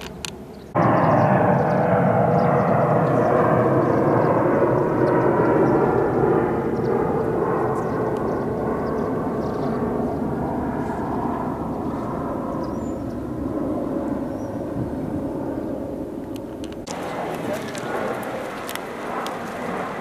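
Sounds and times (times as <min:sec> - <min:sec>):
jet airliner flying overhead: 0:00.0 - 0:20.0.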